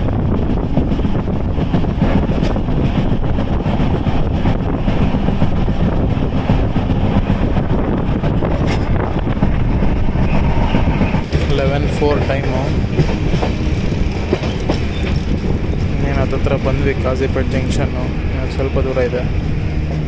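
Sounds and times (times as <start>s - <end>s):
train wheels on rails: 0.0s - 20.0s
wind on microphone: 0.0s - 20.0s.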